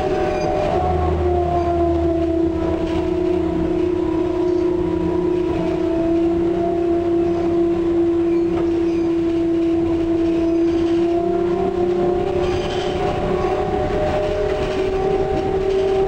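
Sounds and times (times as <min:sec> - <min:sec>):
running gear rumble: 0:00.0 - 0:16.0.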